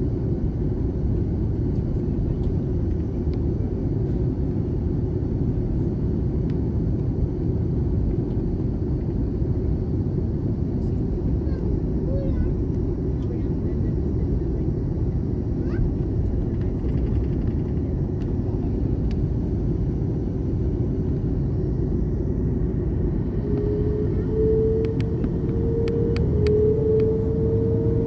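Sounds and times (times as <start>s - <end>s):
jet cabin engine rumble: 0.0s - 28.0s.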